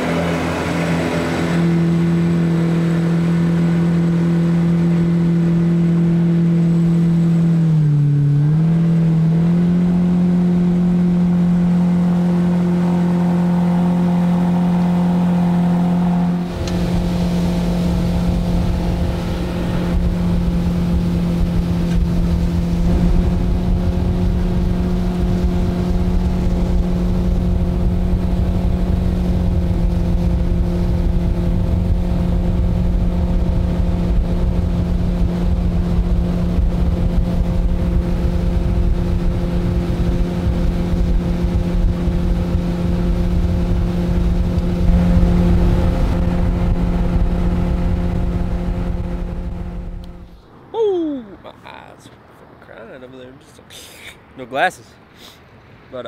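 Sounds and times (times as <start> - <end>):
boat engine cruising: 0.0 - 56.0
low rumble: 4.1 - 51.4.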